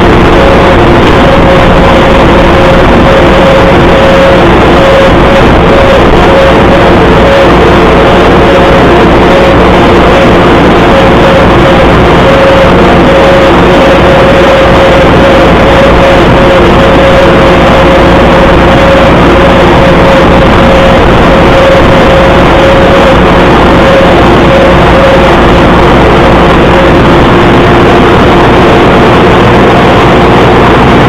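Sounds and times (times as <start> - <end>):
steady whine: 0.0 - 31.0
tractor diesel engine under load: 0.0 - 31.0.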